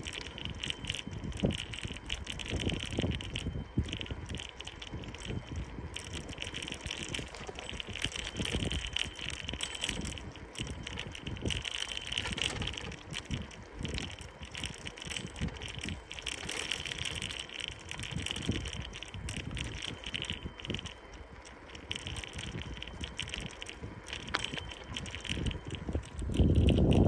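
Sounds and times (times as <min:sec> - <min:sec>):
bicycle tyres rumbling on asphalt: 0:00.0 - 0:27.0
wind buffeting microphone: 0:00.0 - 0:27.0.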